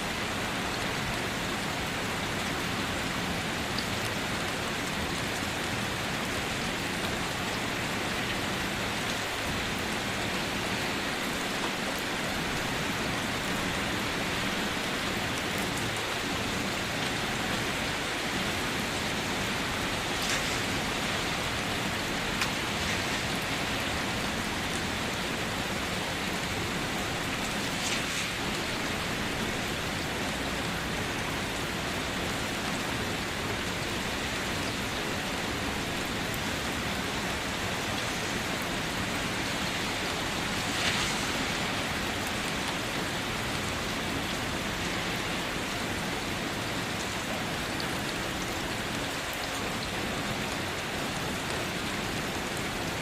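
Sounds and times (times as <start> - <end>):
steady rain falling: 0.0 - 53.0
louder raindrop splashes: 0.1 - 50.6.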